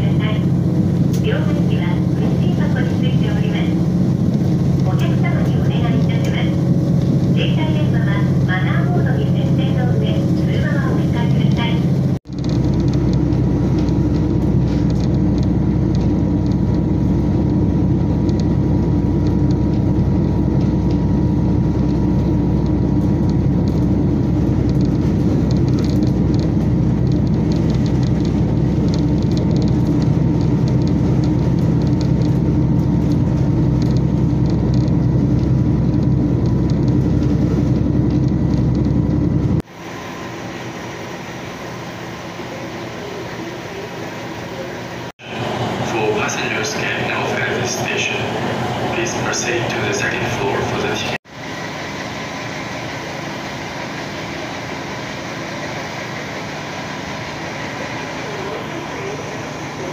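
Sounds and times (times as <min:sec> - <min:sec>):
engine and rail rumble: 0:00.0 - 0:59.9.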